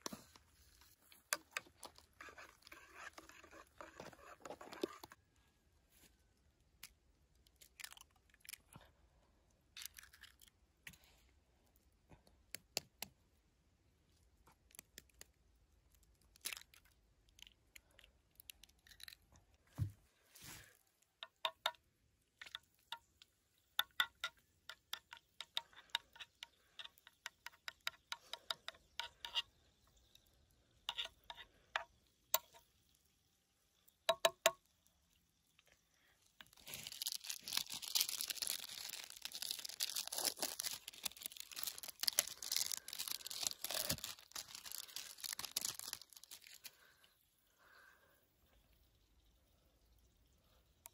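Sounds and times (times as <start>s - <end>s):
eggs crackling in hot oil: 0.0s - 5.3s, 6.2s - 8.9s, 9.5s - 13.0s, 14.2s - 19.7s, 20.8s - 50.9s.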